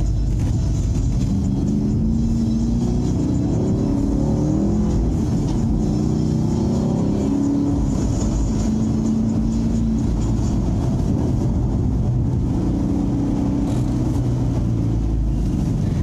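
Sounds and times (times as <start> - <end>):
road noise: 0.0 - 16.0
car engine revving in cabin: 0.4 - 16.0.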